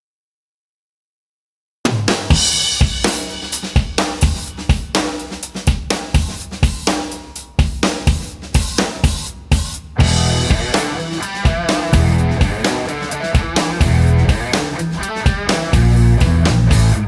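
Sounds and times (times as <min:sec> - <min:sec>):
rock music with drums: 0:01.9 - 0:17.0.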